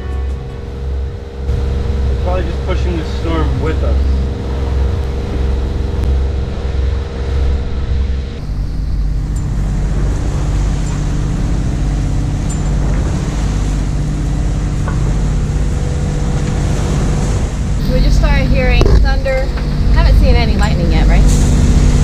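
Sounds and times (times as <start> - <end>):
boat engine running: 0.0 - 22.0
water rushing along hull: 0.0 - 22.0
wind: 0.0 - 22.0.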